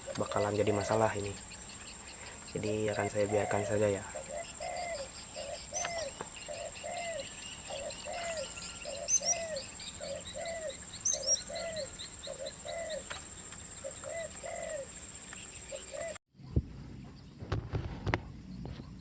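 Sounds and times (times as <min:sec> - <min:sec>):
low arched bird call: 0:00.0 - 0:16.2
small birds chirping: 0:00.0 - 0:19.0.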